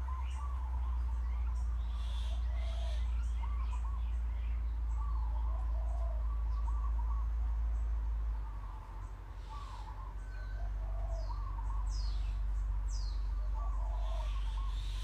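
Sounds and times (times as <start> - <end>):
birds chirping and warbling: 0.0 - 15.0
steady low hum: 0.0 - 15.0.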